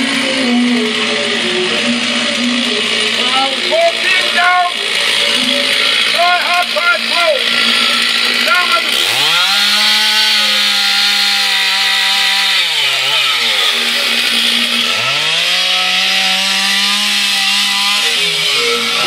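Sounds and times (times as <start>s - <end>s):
chainsaw cutting logs: 0.0s - 19.0s.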